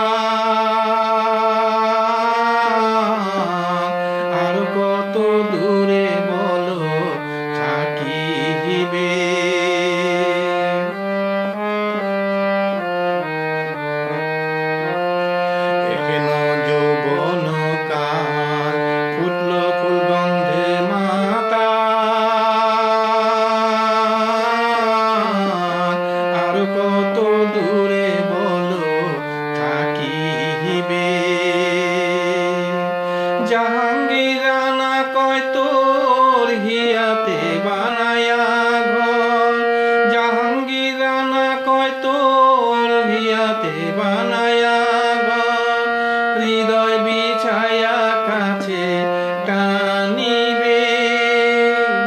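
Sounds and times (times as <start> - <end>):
man singing with vibrato: 0.0 - 52.0
musical accompaniment: 0.0 - 52.0.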